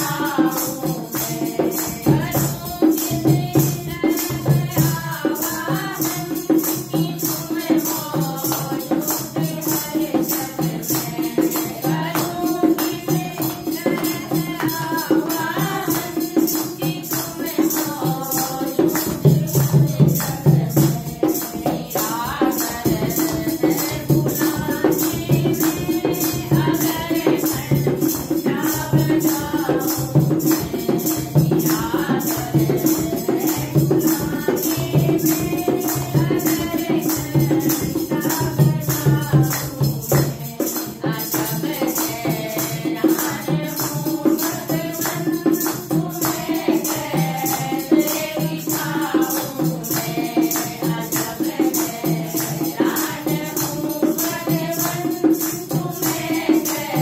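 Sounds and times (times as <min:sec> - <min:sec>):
hand drum beat: 0:00.0 - 0:57.0
jingling hand percussion: 0:00.0 - 0:57.0
women singing in unison: 0:00.0 - 0:57.0.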